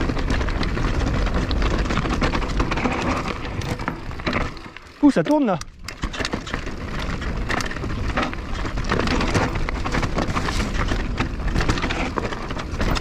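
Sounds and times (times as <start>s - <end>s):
bike clicks and rattles: 0.0s - 13.0s
tyres crunching over gravel: 0.0s - 13.0s.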